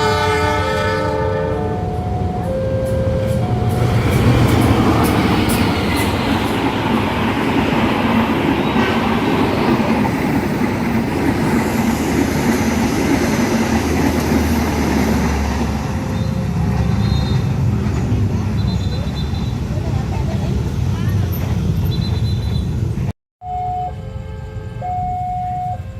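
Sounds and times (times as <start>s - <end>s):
train wheels rumbling on rails: 1.6s - 23.1s.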